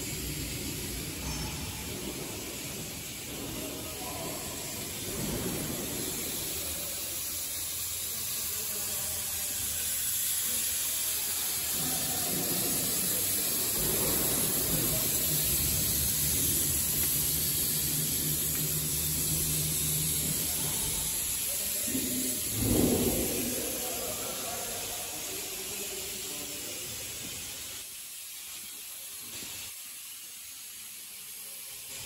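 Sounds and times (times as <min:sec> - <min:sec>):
high hiss: 0:00.0 - 0:32.0.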